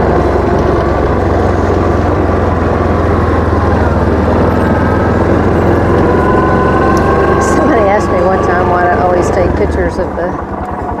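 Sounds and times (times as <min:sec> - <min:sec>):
faint whine: 0:00.0 - 0:11.0
utility vehicle engine running: 0:00.0 - 0:11.0.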